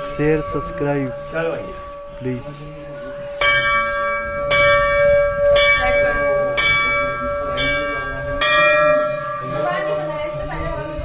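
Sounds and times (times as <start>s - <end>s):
hanging bells clanging: 0.0s - 11.0s.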